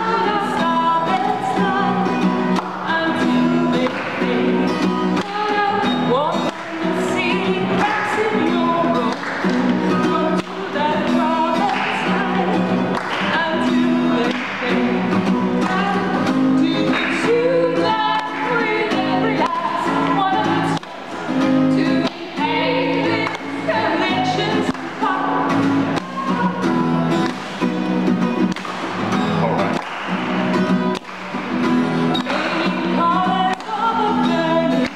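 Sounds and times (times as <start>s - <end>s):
women singing together: 0.0s - 27.2s, 32.1s - 34.9s
strummed acoustic guitar: 0.0s - 34.9s.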